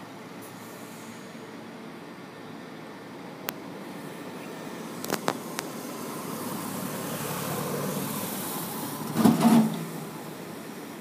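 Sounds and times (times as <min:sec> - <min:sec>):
train rumble and hiss: 0:00.0 - 0:11.0.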